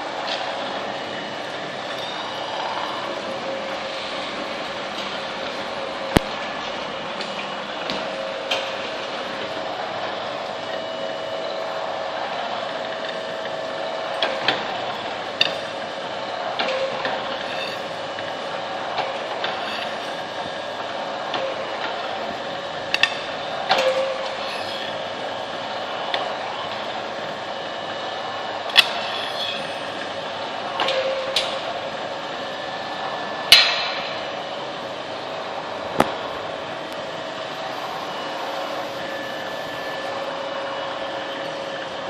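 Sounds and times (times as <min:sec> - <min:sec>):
metalworking machine humming: 0:00.0 - 0:42.0.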